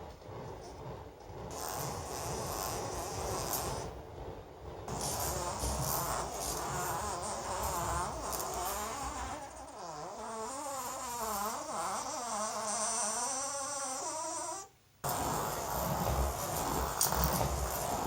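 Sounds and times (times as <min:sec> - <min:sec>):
magnet and ball bearings buzzing: 0:01.5 - 0:03.9, 0:04.9 - 0:18.0.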